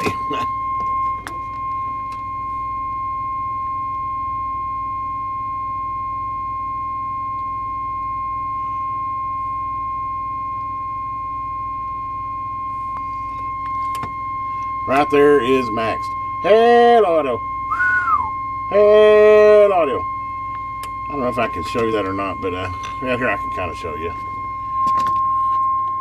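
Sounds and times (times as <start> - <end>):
steady audio test tone: 0.0 - 26.0.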